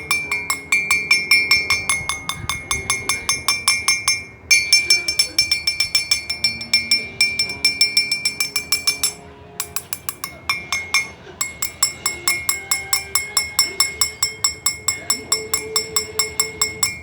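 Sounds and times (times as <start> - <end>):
high-pitched ringing metal strikes: 0.0 - 17.0.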